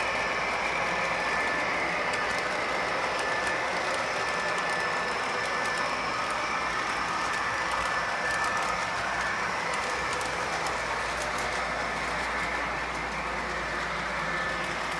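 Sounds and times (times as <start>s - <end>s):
model train rolling on track: 0.0s - 14.9s.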